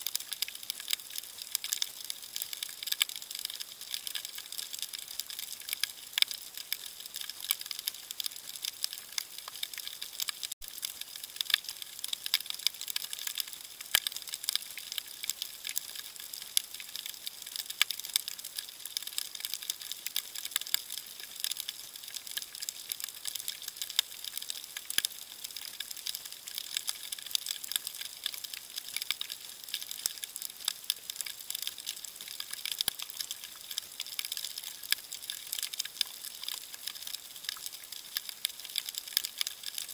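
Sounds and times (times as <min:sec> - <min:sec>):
snapping shrimp crackling underwater: 0:00.0 - 0:39.9.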